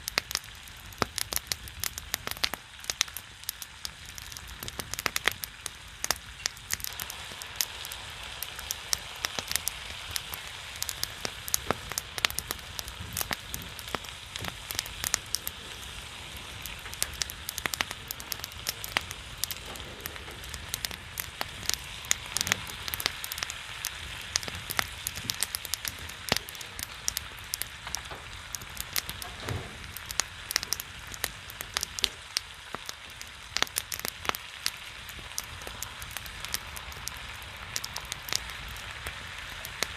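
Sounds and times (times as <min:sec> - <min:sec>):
fire crackling and popping: 0:00.0 - 0:39.9
meat sizzling on a griddle: 0:00.0 - 0:39.9.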